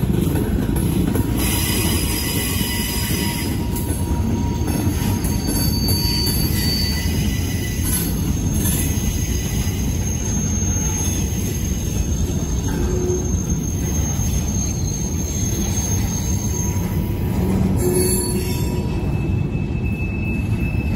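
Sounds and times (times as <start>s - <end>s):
train wheels rumbling on rail: 0.0s - 20.9s
high wheel squeals: 1.3s - 20.9s.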